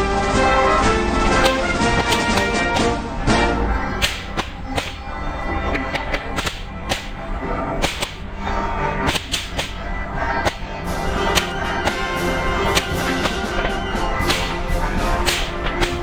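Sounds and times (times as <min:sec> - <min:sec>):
fireworks bangs and cracks: 0:00.0 - 0:16.0
music playing: 0:00.0 - 0:16.0.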